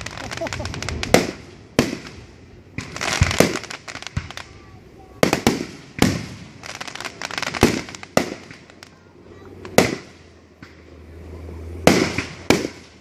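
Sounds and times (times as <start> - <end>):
small firework pops: 0.0 - 4.6, 5.2 - 9.0, 9.6 - 10.9, 11.8 - 13.0
firework bangs with echo: 0.0 - 10.7, 11.8 - 13.0.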